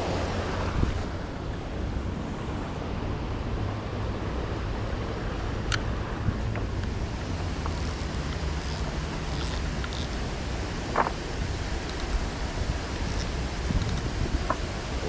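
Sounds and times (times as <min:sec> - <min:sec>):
flowing river water: 0:00.0 - 0:15.0
wind rumbling on microphone: 0:00.0 - 0:15.0.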